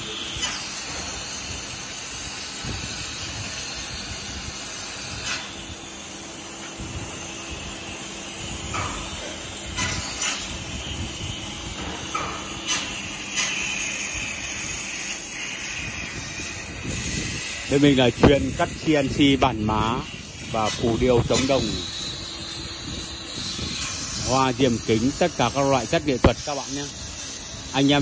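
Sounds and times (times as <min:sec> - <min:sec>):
laser cutter hissing: 0:00.0 - 0:28.0.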